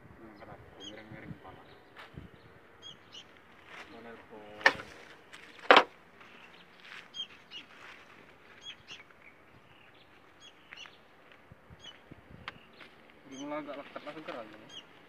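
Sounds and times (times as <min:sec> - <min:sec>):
small birds chirping: 0:00.2 - 0:15.0.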